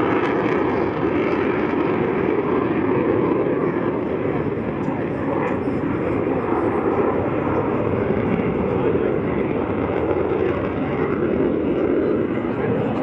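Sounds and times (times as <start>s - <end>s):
fighter jet engine roar: 0.0s - 13.0s.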